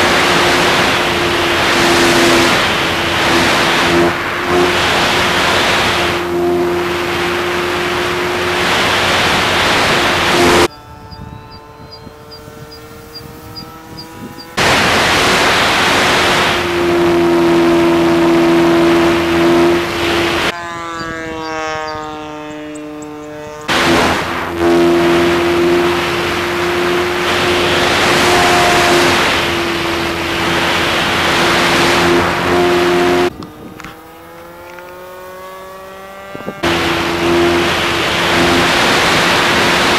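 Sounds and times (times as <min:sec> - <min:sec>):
electric motor drone: 0:00.0 - 0:39.9
model plane whine flying past: 0:00.0 - 0:39.9
rush of wind: 0:00.0 - 0:39.9.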